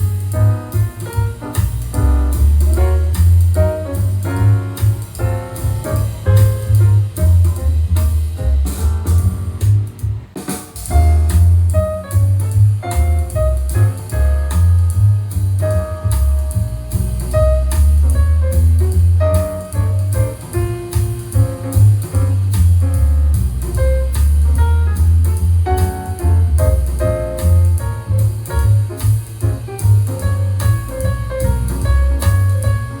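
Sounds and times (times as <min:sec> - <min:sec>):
instrumental jazz music: 0:00.0 - 0:33.0.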